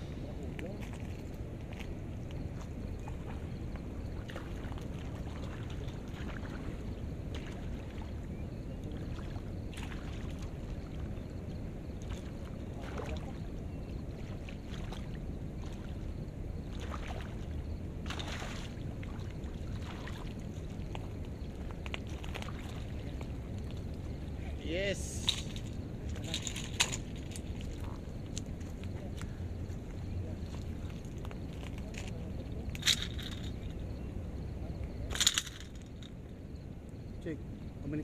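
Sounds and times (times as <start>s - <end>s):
splashing in shallow water: 0.4s - 34.0s.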